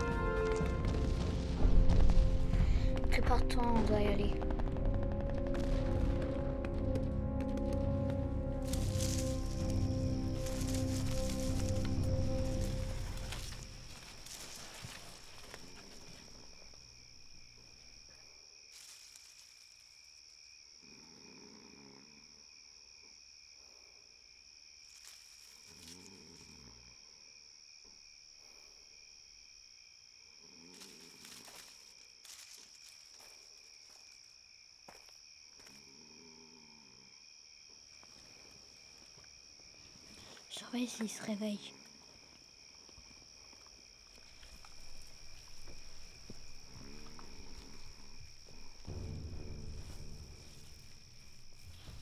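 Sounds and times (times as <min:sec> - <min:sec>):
crickets chirring: 0:04.4 - 0:52.0.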